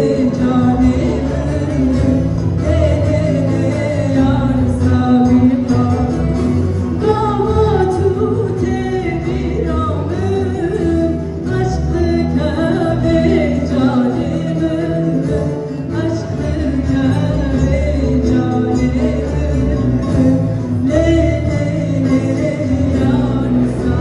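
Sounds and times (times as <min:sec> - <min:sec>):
folk ensemble with frame drums: 0:00.0 - 0:24.0
woman singing: 0:00.0 - 0:24.0.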